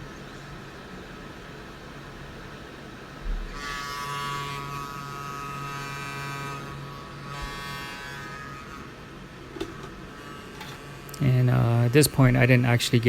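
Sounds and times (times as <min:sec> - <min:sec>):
small electric motor whining: 0:02.5 - 0:13.0.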